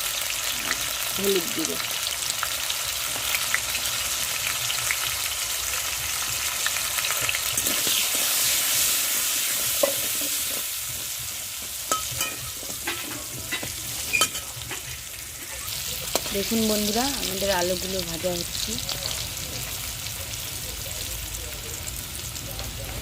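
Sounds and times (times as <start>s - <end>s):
potatoes sizzling in hot oil: 0.0s - 23.0s.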